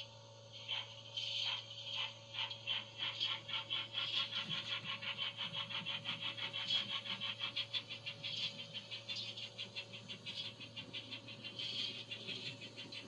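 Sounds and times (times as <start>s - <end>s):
rapid steam chuffs from small speaker: 0.0s - 13.0s.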